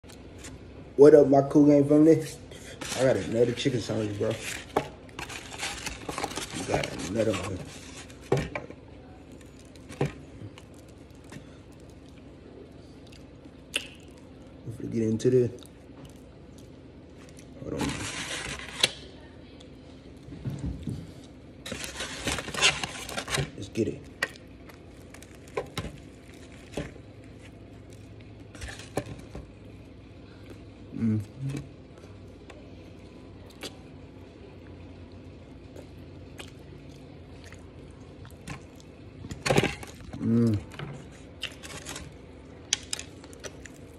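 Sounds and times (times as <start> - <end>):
low room hum: 0.0 - 43.9.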